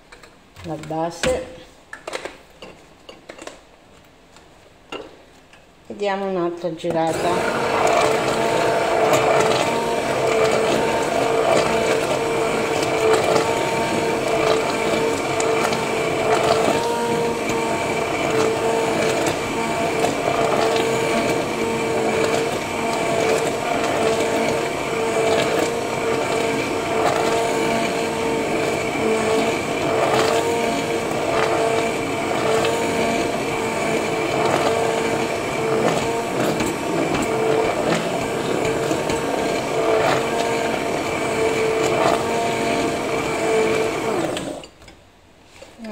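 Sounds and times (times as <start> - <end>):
immersion blender motor whine: 6.9 - 44.7.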